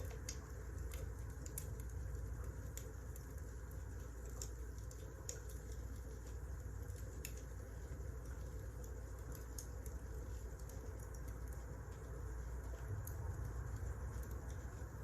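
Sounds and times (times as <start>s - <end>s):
low rumble of burning wood: 0.0s - 15.0s
wood fire crackling and popping: 0.0s - 15.0s.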